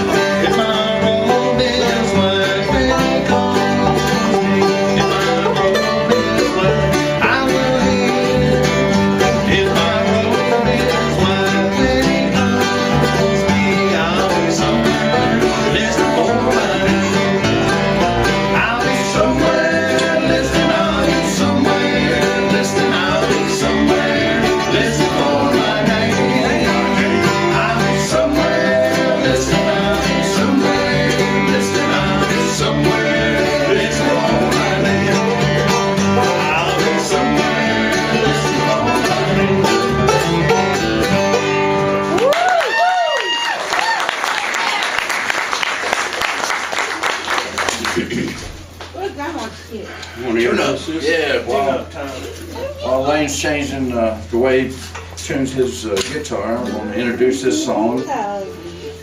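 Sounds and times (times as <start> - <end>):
banjo picking: 0.0 - 42.5, 50.2 - 59.0
acoustic guitar: 0.0 - 59.0.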